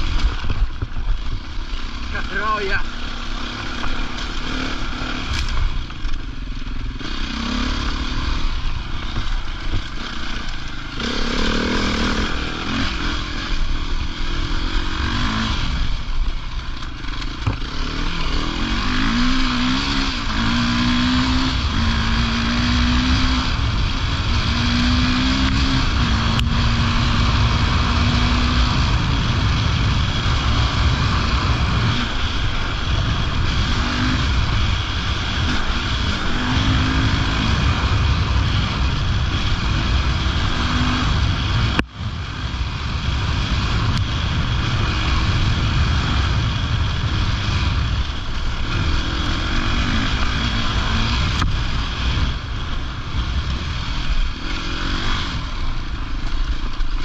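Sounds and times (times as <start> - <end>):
motorcycle engine shifting gears: 0.0 - 57.0
steady rush of noise: 0.0 - 57.0.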